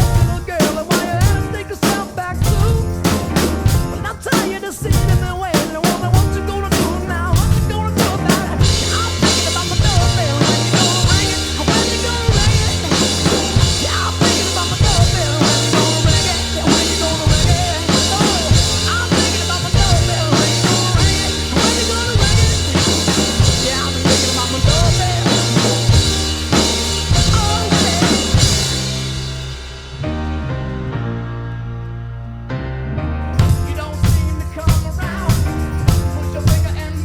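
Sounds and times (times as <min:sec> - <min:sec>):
rock drum kit groove: 0:00.0 - 0:30.1, 0:33.4 - 0:37.0
piano and singing song: 0:00.0 - 0:37.0.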